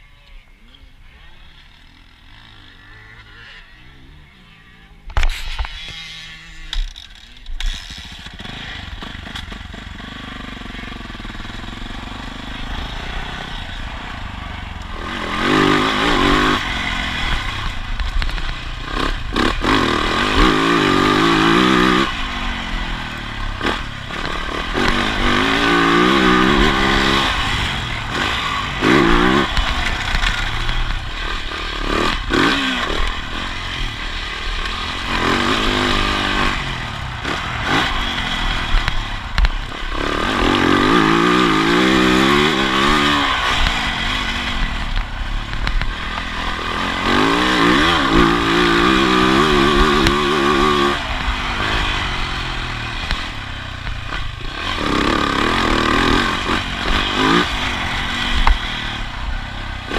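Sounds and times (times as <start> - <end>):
dirt bike engine revving: 0.1 - 59.9.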